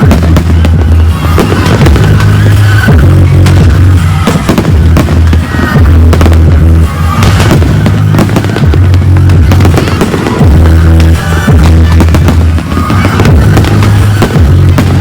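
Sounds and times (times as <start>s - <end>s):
fireworks bangs and crackling: 0.0s - 15.0s
loud music with heavy bass: 0.0s - 15.0s.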